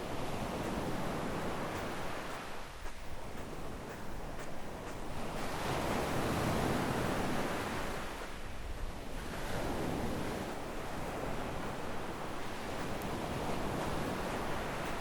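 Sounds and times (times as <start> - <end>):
sea waves washing up beach: 0.0 - 15.0.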